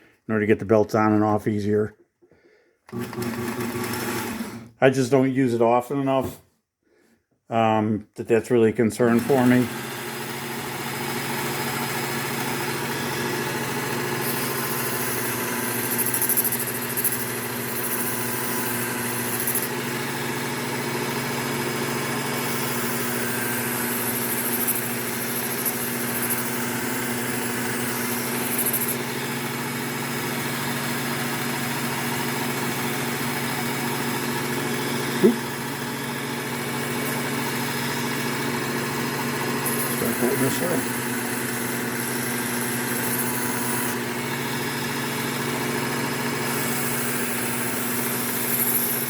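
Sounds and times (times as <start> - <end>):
belt sharpener motor running: 2.9 - 4.7, 9.0 - 49.0.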